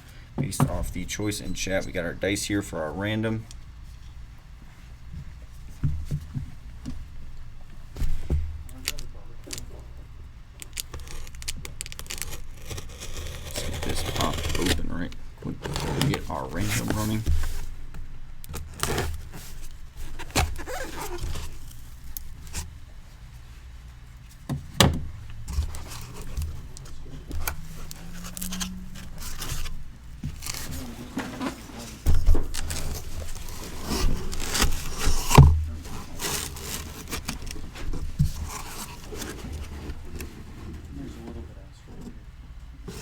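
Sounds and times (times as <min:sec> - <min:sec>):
cardboard scraping and rustling: 0:05.5 - 0:10.0, 0:10.6 - 0:23.5, 0:24.2 - 0:43.0.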